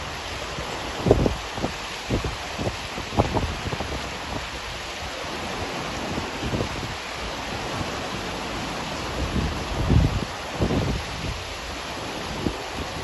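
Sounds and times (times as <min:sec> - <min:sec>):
wind buffeting microphone: 0:00.0 - 0:04.9, 0:05.6 - 0:08.0, 0:08.9 - 0:13.0
river rushing over rocks: 0:00.0 - 0:13.0.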